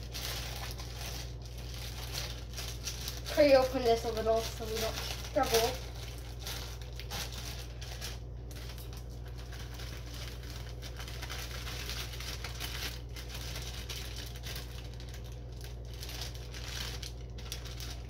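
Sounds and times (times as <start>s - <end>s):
plastic bag crinkling: 0.0s - 18.0s
steady low hum: 0.0s - 18.0s.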